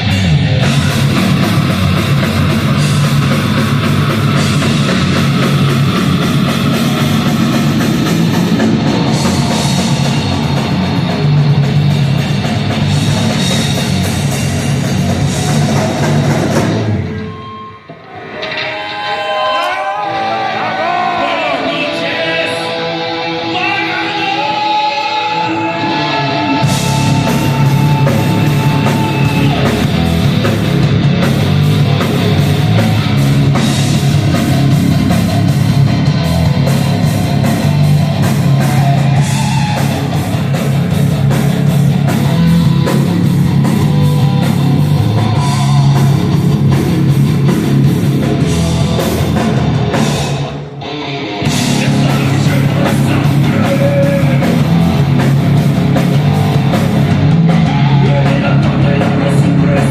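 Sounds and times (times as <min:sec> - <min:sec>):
heavy rock band playing live: 0:00.0 - 0:59.9.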